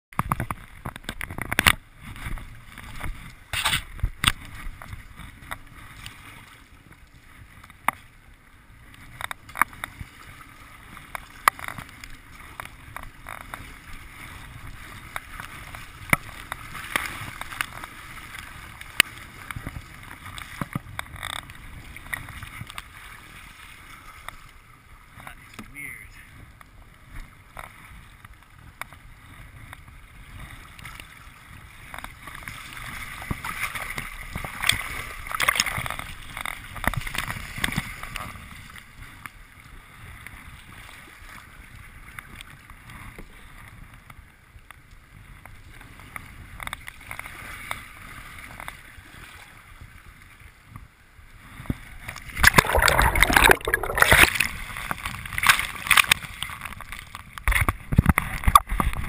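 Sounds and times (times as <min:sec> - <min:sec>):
water washing against hull: 0:00.1 - 0:59.0
paddle strokes splashing: 0:00.2 - 0:25.6, 0:26.3 - 0:43.7, 0:51.4 - 0:59.0.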